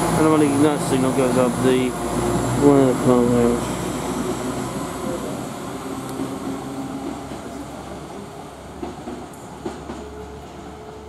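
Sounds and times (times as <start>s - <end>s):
diesel train engines rumbling: 0.0s - 11.0s.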